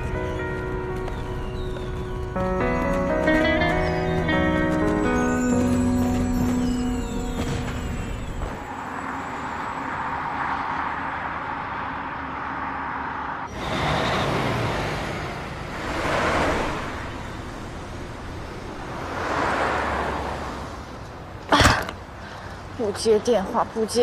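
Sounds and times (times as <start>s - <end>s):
traffic background noise: 0.0s - 24.0s
vehicles passing by: 0.0s - 24.0s.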